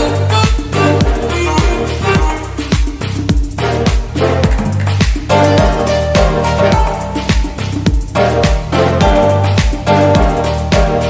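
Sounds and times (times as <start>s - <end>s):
bass line: 0.0s - 11.0s
music with kick-drum beat: 0.0s - 11.0s.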